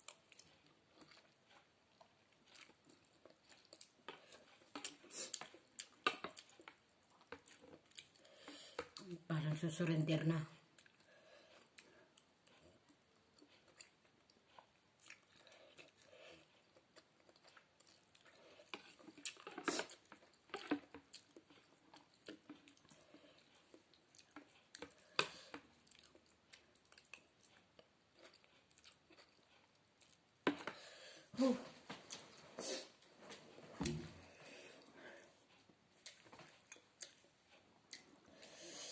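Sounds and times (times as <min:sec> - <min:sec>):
person chewing noodles: 0:00.0 - 0:09.1, 0:10.7 - 0:31.3, 0:32.1 - 0:38.9.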